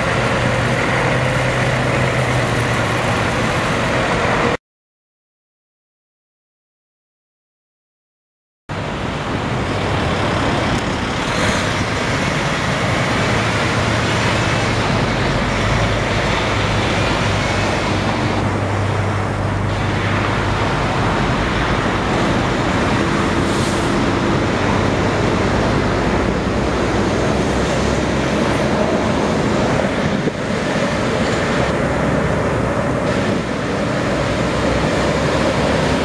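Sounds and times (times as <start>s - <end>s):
truck diesel engine drone: 0.0s - 4.6s, 8.7s - 36.0s
tyres hissing on wet road: 0.0s - 4.6s, 8.7s - 36.0s.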